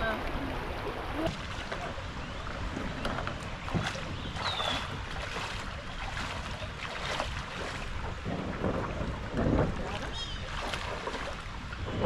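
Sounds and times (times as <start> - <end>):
water lapping and splashing: 0.0 - 12.0
wind rumble on microphone: 0.0 - 12.0.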